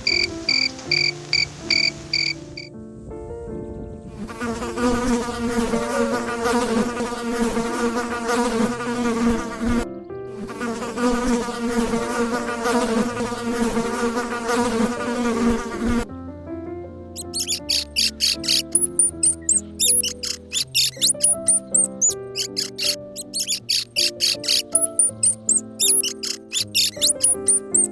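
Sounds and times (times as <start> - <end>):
insect wingbeat buzz: 0.0 - 2.8, 4.2 - 16.0, 17.2 - 27.9.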